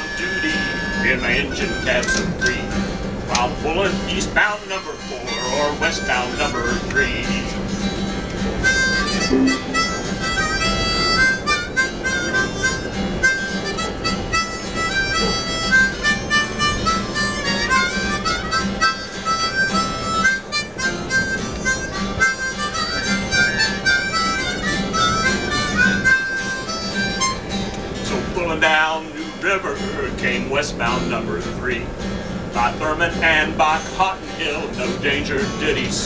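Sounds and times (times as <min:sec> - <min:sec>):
harmonicas playing: 0:00.0 - 0:29.4
steady low hum: 0:00.0 - 0:36.0.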